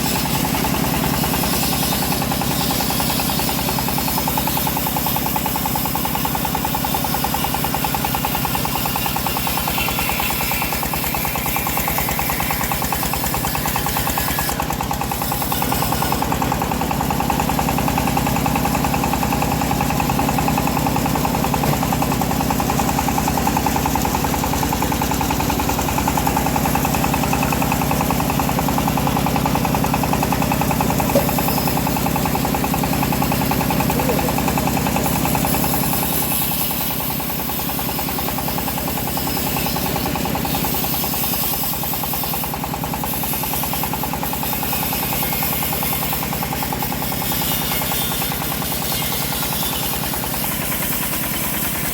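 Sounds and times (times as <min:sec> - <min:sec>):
bandsaw mill cutting log: 0:00.0 - 0:51.9.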